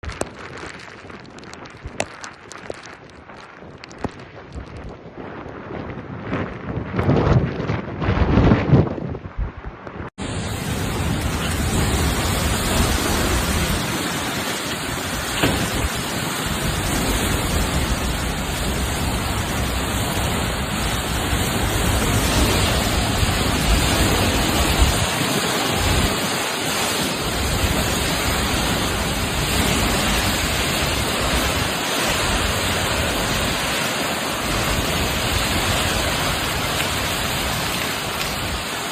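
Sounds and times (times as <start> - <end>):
heavy rain pouring: 0.0 - 38.9
wind gusts rumbling on microphone: 0.0 - 38.9.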